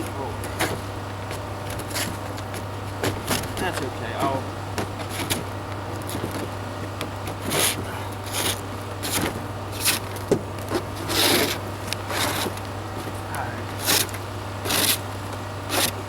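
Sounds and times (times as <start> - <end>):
scraping on a roof: 0.0 - 16.0
steady low hum: 0.0 - 16.0.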